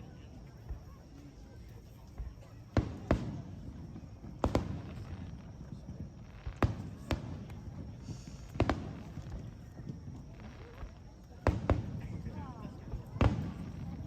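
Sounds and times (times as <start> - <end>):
fireworks bangs: 2.2 - 14.0.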